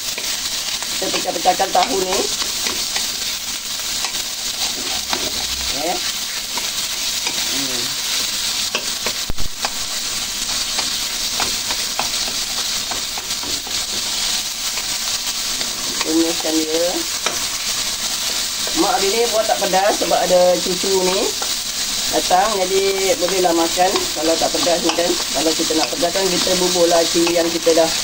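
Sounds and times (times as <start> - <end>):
food sizzling in hot oil: 0.0 - 28.0
spatula scraping and tapping wok: 0.0 - 28.0.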